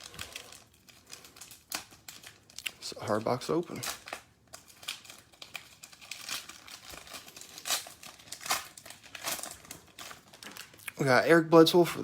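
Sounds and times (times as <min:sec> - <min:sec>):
plastic packaging tearing: 0:00.0 - 0:11.3
plastic packaging crinkling: 0:00.0 - 0:12.0.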